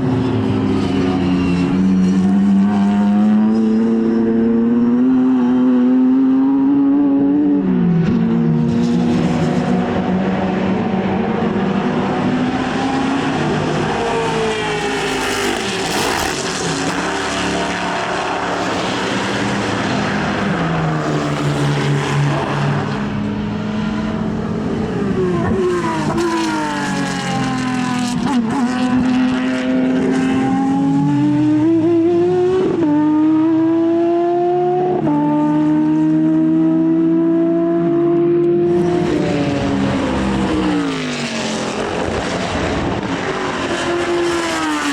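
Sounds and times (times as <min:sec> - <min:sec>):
racing car engines: 0:00.0 - 0:44.9.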